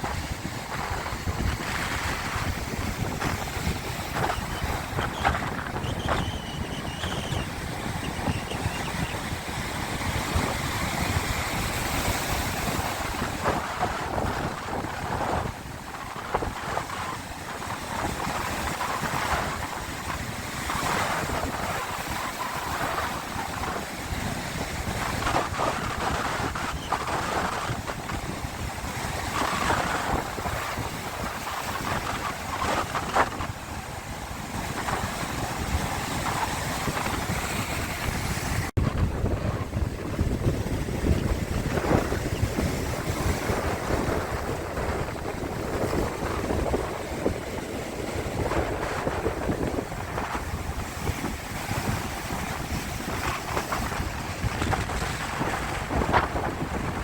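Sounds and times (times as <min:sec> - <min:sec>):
sea waves washing: 0:00.0 - 0:57.0
wind buffeting microphone: 0:00.0 - 0:57.0.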